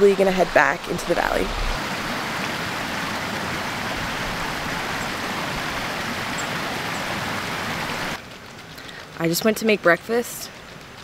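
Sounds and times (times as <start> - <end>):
creek running over stones: 0.0 - 10.2.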